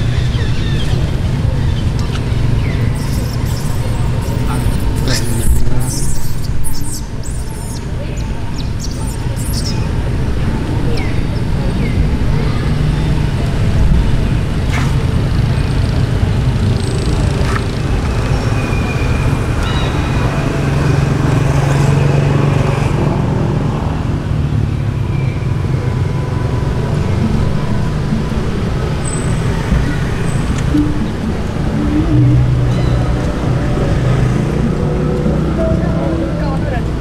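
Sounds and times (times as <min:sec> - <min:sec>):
engine hum: 0:00.0 - 0:37.0
motor traffic rumble: 0:00.0 - 0:37.0.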